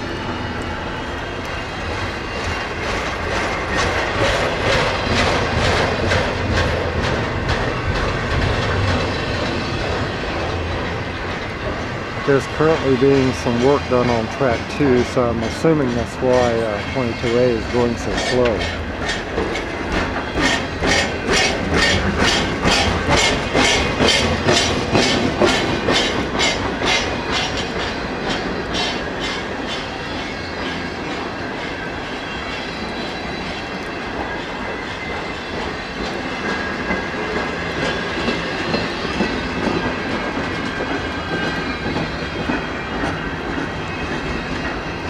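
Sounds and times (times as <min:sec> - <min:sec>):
train wheels clicking over rail joints: 0:00.0 - 0:45.0
wheels rumbling on rail: 0:00.0 - 0:45.0.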